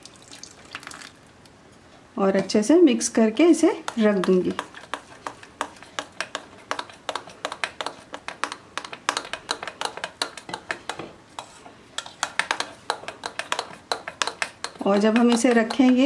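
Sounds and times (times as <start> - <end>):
spoon stirring thick batter: 2.4 - 16.0.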